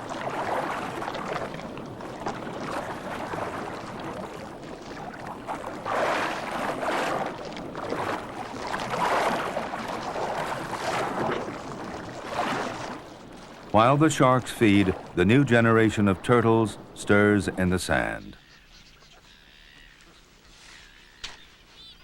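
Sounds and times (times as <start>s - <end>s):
water splashing and churning: 0.0s - 18.4s.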